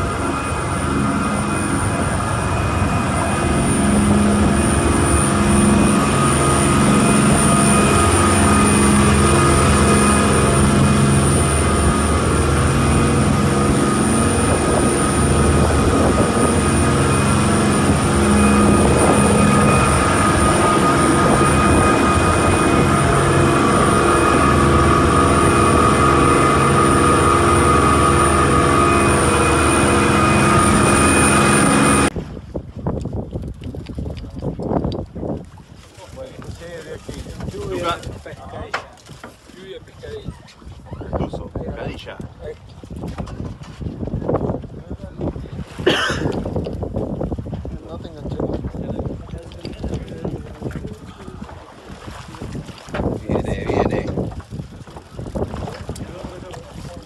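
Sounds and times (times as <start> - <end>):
boat engine running: 0.0 - 57.0
water rushing from hull: 0.0 - 57.0.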